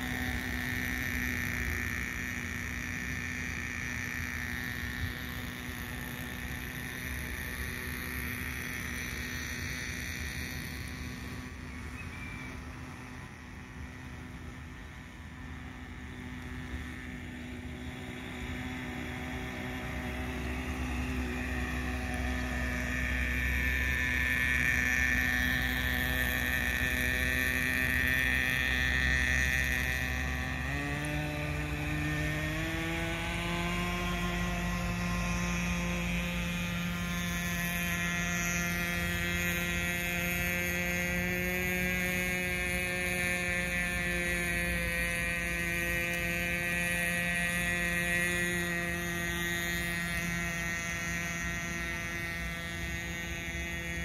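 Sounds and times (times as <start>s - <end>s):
model boat engine whine: 0.0s - 54.0s.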